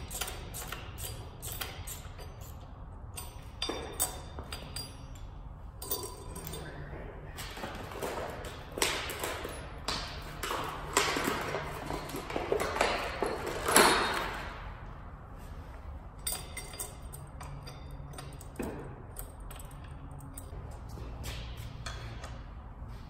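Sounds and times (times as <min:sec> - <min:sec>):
metal tools clattering on concrete: 0:00.0 - 0:14.7, 0:16.1 - 0:21.1.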